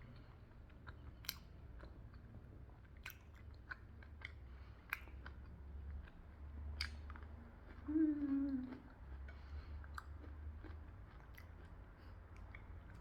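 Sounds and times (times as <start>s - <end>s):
close chewing of dumplings: 0.0s - 13.0s.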